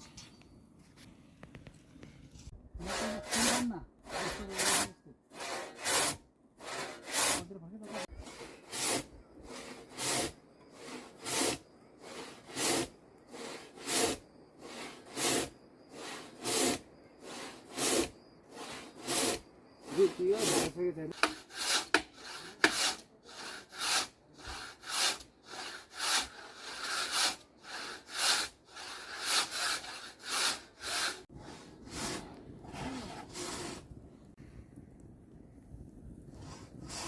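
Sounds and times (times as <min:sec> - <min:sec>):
hand saw cutting timber: 0:02.8 - 0:33.8.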